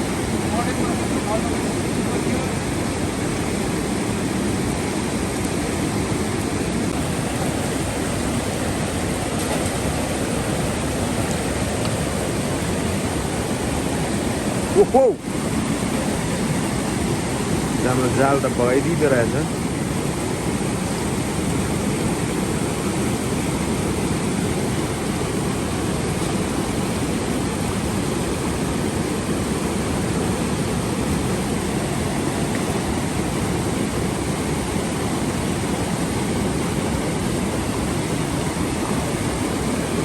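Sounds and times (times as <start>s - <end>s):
flooded river rushing: 0.0s - 40.0s.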